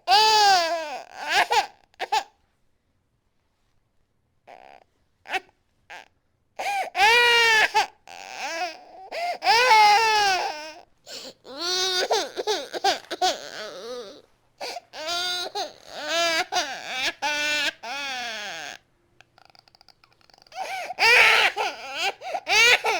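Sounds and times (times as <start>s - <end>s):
infant crying: 0.0s - 2.3s, 4.5s - 18.8s, 19.4s - 22.9s.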